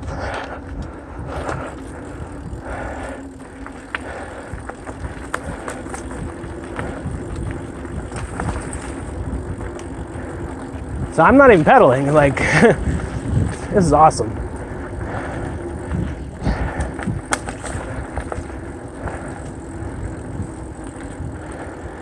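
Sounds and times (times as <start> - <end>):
bike rattling and clicking: 0.0 - 22.0
bike tyres on dirt: 0.0 - 22.0
wind rumble: 0.0 - 22.0.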